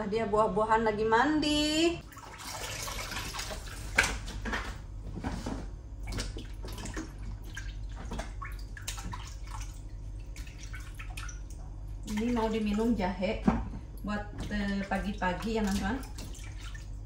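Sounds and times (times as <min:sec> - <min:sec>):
water splashing in sink: 0:02.0 - 0:04.7, 0:05.4 - 0:17.0.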